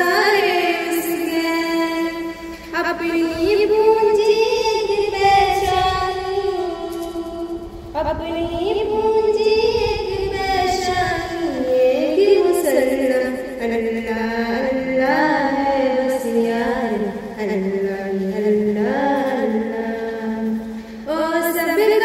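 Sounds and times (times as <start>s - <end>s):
girl singing unaccompanied hymn: 0.0s - 22.0s.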